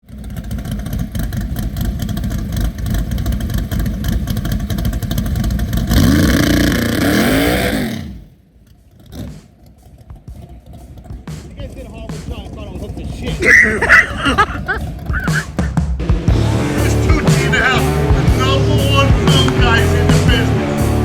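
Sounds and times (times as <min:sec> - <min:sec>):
drag car engine revving: 0:00.0 - 0:21.0.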